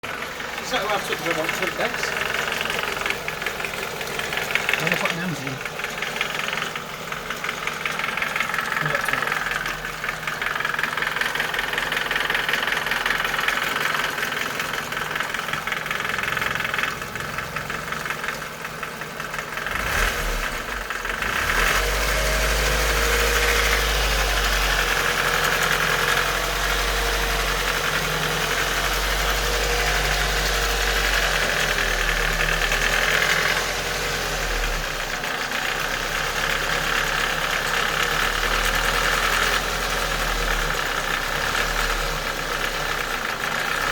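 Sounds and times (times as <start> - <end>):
car engine idling with ticking: 0.0 - 43.9.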